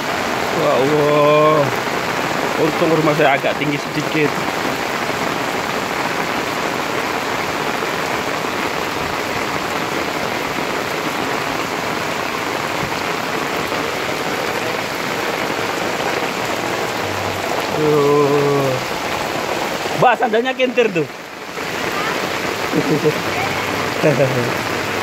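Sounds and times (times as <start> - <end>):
heavy rain on pavement: 0.0 - 25.0.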